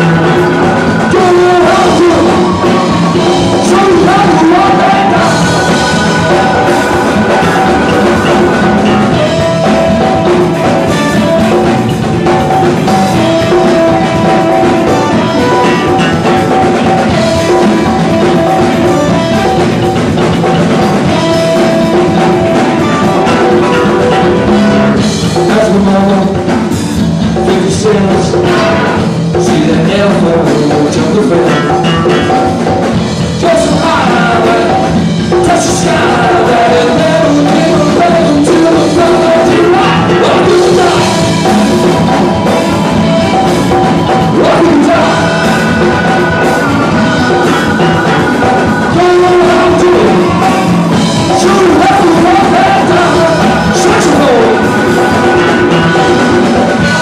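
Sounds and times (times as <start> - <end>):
funk band playing: 0.0 - 57.0.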